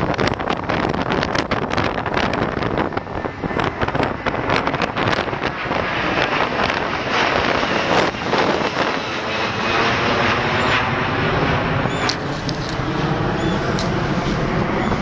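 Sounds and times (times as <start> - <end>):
jet airliner passing overhead: 0.0 - 15.0
wind gusts on microphone: 0.0 - 15.0.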